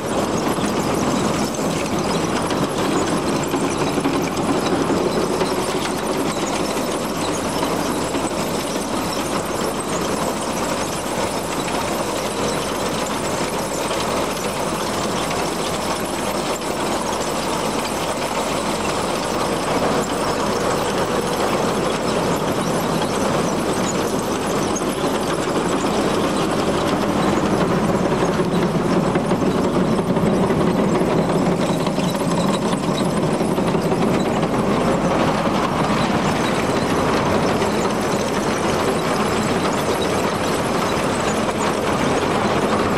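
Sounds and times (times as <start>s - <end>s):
combine engine running: 0.0s - 42.9s.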